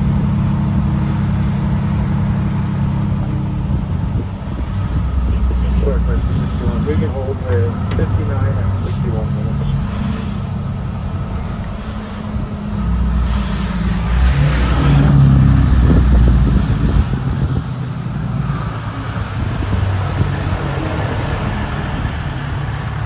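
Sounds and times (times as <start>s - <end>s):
vehicle engine passing by: 0.0s - 23.0s.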